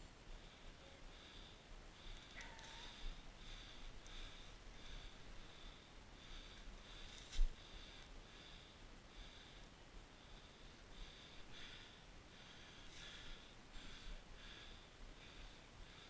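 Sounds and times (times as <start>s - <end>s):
breaths close to microphone: 0.3s - 16.0s.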